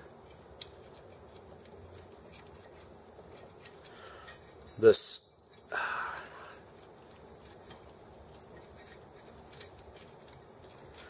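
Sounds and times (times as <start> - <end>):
small metal parts clicking: 0.0 - 11.0.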